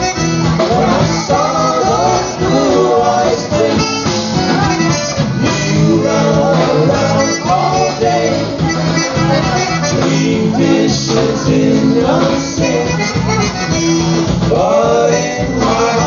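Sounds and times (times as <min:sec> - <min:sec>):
man singing: 0:00.0 - 0:16.0
polka band playing: 0:00.0 - 0:16.0.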